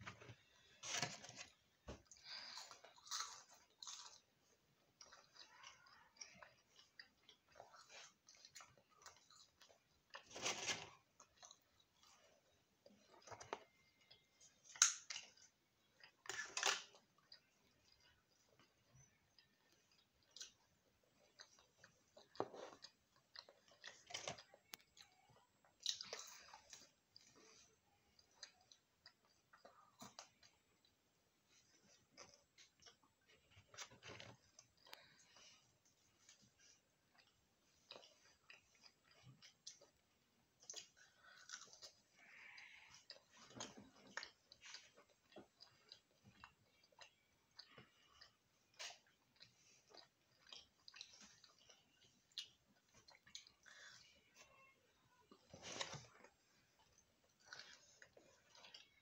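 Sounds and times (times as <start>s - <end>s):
children chewing food: 0.0s - 59.0s.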